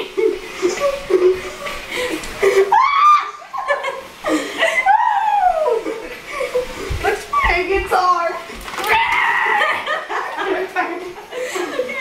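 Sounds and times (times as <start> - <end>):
girls laughing: 0.0 - 7.7, 8.9 - 12.0.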